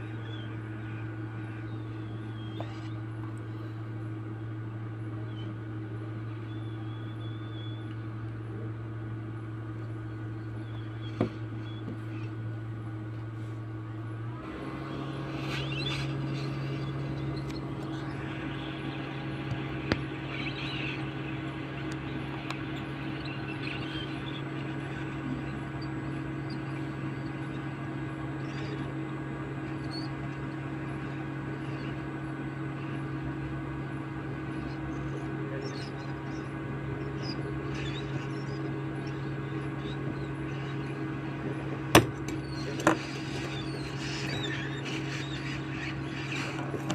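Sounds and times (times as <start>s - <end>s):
hot-air blower humming: 0.0s - 46.9s.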